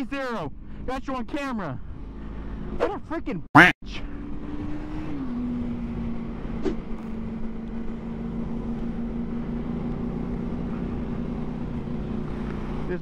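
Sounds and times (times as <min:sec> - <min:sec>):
motorcycle engine cruising: 0:00.4 - 0:02.8, 0:03.8 - 0:13.0.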